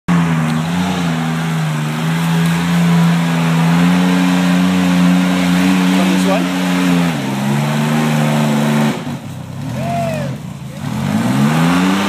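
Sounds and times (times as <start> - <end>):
off-road engine at high revs: 0.1 - 12.0.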